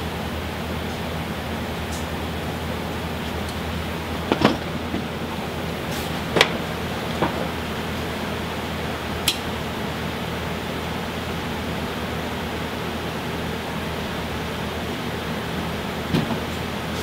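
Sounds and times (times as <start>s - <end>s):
oven air rushing: 0.0s - 17.0s.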